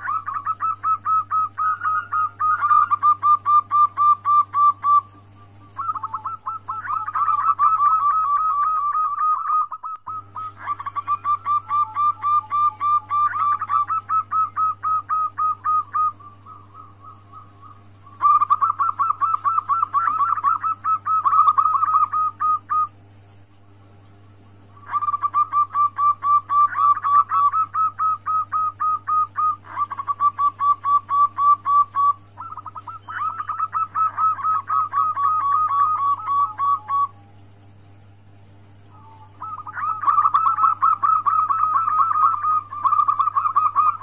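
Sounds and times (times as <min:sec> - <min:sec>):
high insect chirp: 0:00.0 - 0:08.3, 0:10.1 - 0:23.0, 0:23.8 - 0:25.5, 0:27.4 - 0:44.0
dove cooing: 0:00.0 - 0:22.9, 0:24.2 - 0:38.2, 0:38.8 - 0:44.0.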